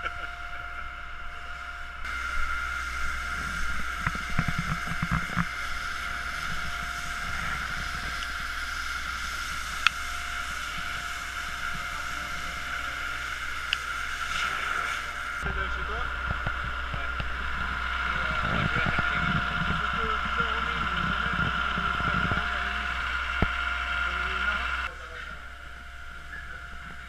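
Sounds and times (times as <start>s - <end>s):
pump running: 0.0s - 27.0s
water rushing through a hose: 2.1s - 25.2s.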